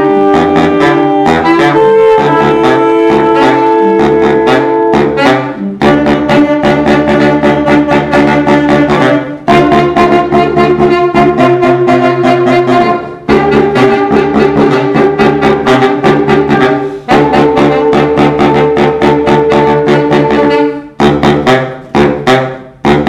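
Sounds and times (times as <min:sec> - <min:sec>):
saxophone quartet playing jazz: 0:00.0 - 0:23.0.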